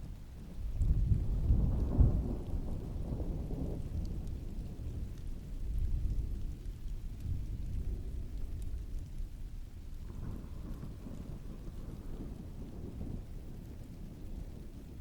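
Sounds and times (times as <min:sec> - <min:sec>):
rain patter: 0:00.0 - 0:15.0
distant rolling thunder: 0:00.5 - 0:15.0.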